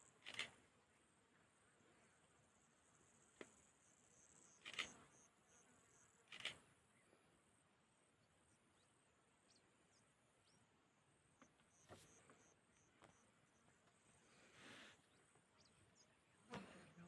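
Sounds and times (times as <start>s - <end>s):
faint insect chirring: 0.0s - 17.0s.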